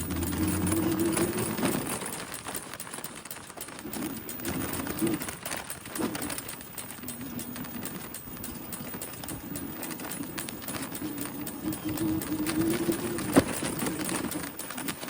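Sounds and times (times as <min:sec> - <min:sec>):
bicycle clicking: 0:00.0 - 0:15.0.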